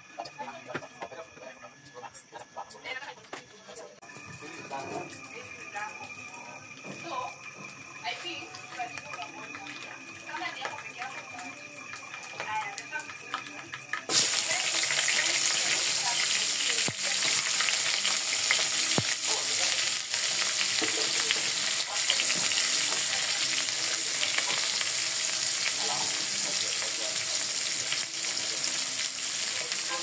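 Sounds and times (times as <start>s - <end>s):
food sizzling in hot oil: 4.0s - 30.0s.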